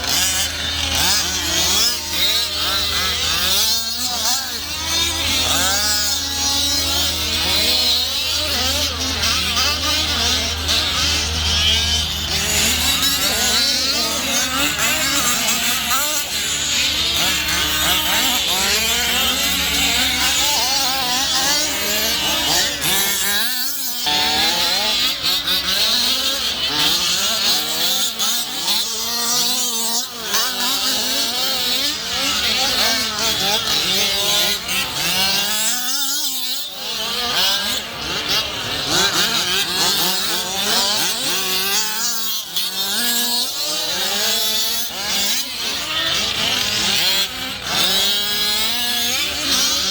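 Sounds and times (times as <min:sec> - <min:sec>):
small two-stroke engines revving: 0:00.0 - 0:49.9.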